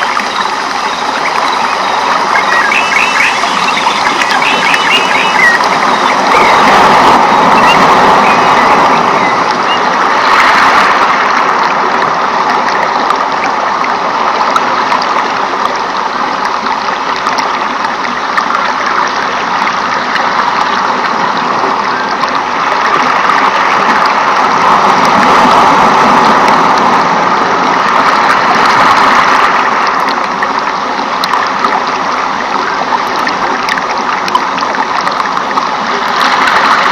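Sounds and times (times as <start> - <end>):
rushing water: 0.0 - 36.9.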